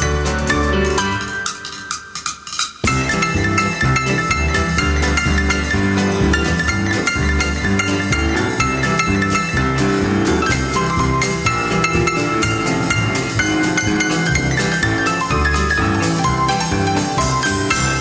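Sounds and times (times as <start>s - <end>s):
music with steady drum beat: 0.0s - 18.0s.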